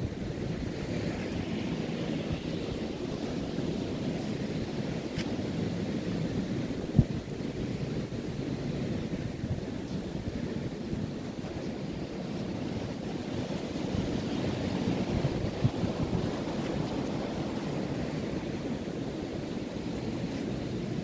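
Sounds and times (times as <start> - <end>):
sea surf rushing: 0.0 - 21.0
wind buffeting microphone: 0.0 - 21.0.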